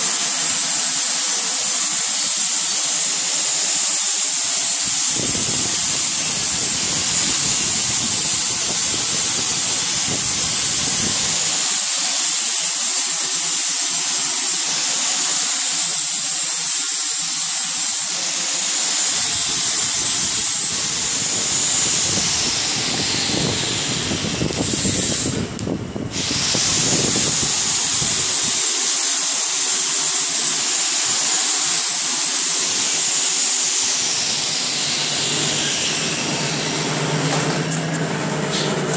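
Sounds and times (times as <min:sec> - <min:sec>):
pulverizer machine hissing: 0:00.0 - 0:38.9.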